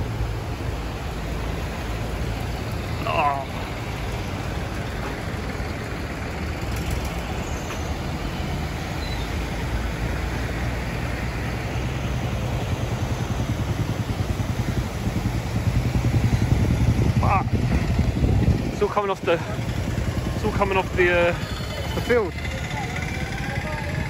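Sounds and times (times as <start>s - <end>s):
motorcycle engine: 0.0s - 24.0s
vehicles driving through water: 0.0s - 24.0s.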